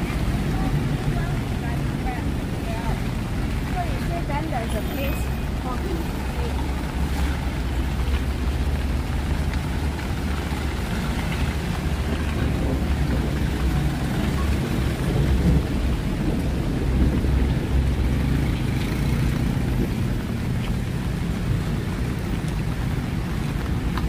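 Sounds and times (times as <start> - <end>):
road traffic rumble: 0.0 - 24.0
steady rain falling: 0.0 - 24.0.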